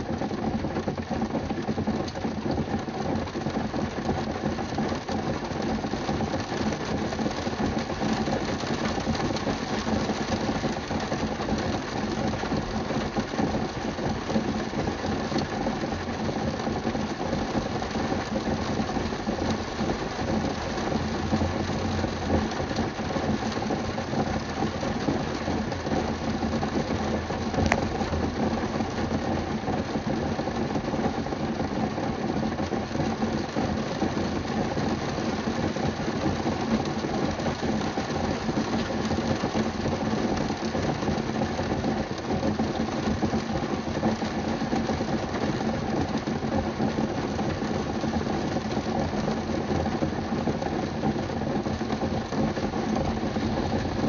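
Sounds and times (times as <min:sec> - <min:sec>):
rain on car roof: 0:00.0 - 0:54.0.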